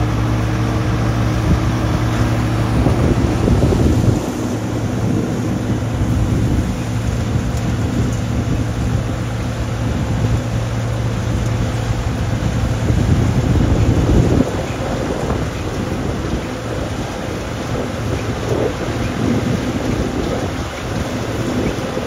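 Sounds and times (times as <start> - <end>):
engine drone: 0.0 - 22.0
machinery rattling and rushing: 0.0 - 22.0.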